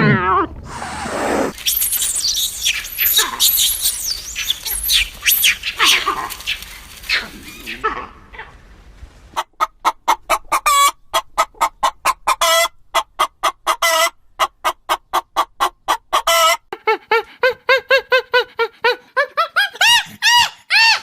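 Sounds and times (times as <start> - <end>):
chicken clucking and squawking: 0.1 - 8.6, 9.4 - 21.0.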